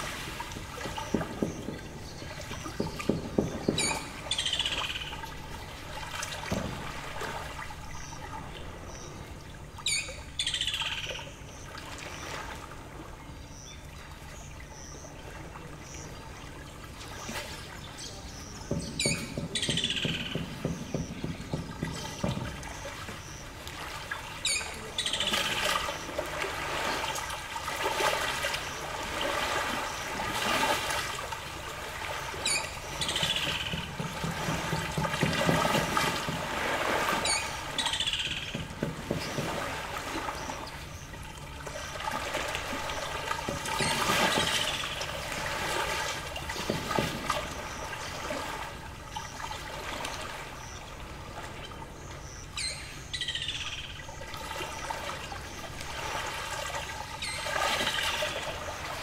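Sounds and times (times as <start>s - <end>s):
lake waves lapping on shore: 0.0s - 59.0s.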